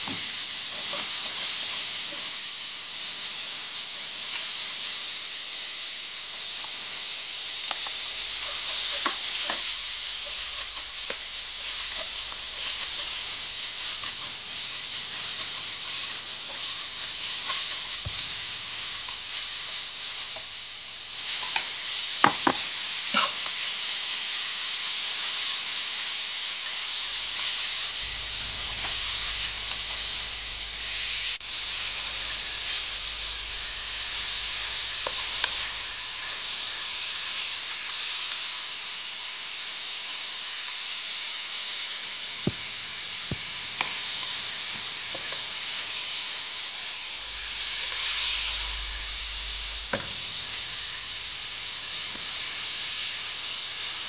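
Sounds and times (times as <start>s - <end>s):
meat and onion sizzling in oil: 0.0s - 54.0s.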